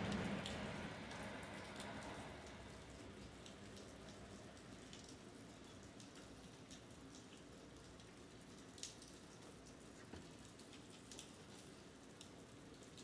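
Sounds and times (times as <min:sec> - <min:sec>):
faint rain on pavement: 0:00.0 - 0:13.0.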